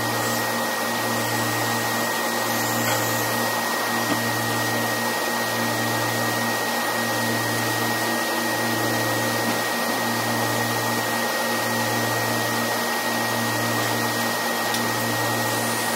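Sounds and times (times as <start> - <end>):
drilling machinery running: 0.0 - 15.9.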